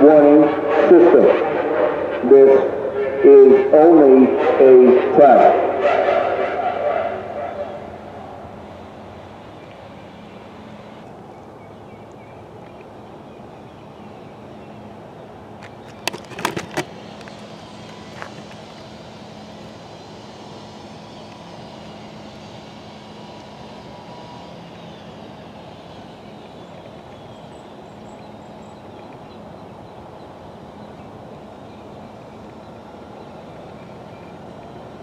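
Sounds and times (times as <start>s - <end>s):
distant traffic hum: 0.0s - 35.0s.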